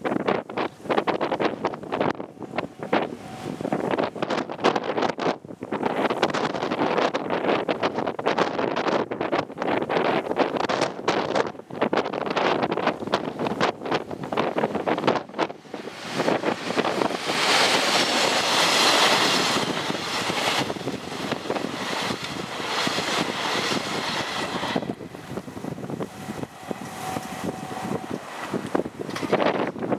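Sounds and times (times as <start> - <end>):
freight train passing: 0.0 - 29.9
wheels clacking over rail joints: 0.0 - 29.9.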